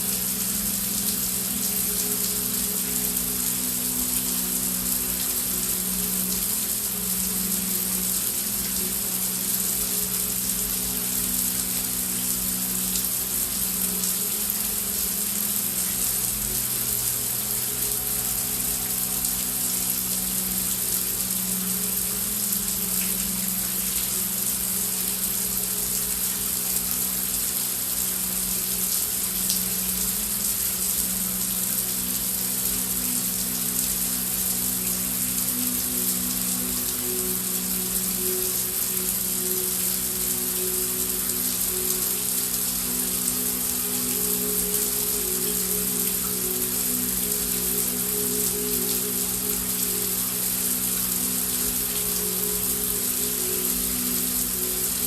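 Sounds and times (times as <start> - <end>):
heavy rain: 0.0 - 55.0
low background drone: 0.0 - 55.0.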